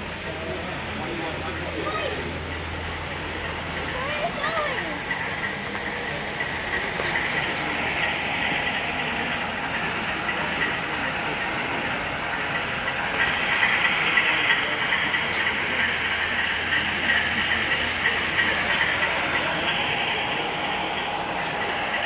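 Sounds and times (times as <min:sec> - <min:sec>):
model train wheels rolling on rails: 0:00.0 - 0:22.0
thin steady whine: 0:00.0 - 0:22.0.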